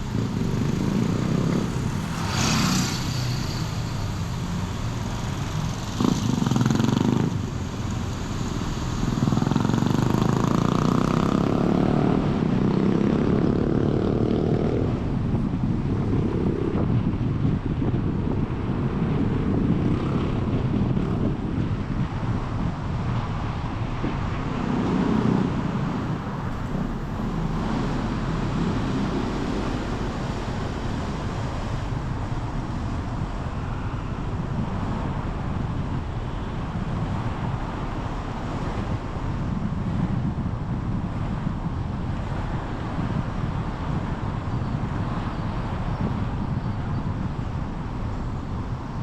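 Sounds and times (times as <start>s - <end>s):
car road and engine noise: 0.0s - 49.0s
wind buffeting microphone: 0.0s - 49.0s.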